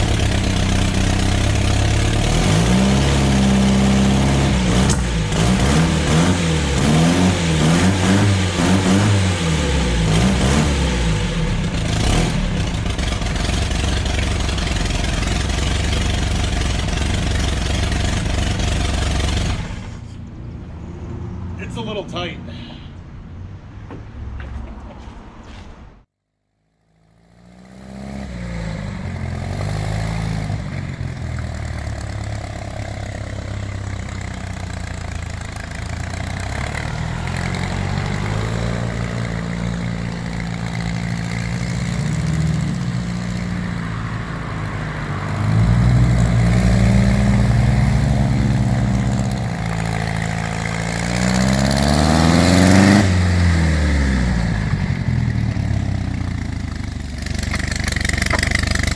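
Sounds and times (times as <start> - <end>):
dragster engine revving: 0.0 - 20.2, 27.4 - 58.9.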